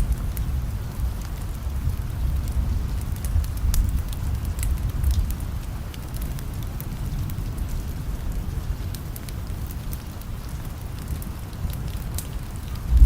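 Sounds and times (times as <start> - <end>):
steady rain hiss: 0.0 - 13.0
wood fire crackling: 0.0 - 13.0.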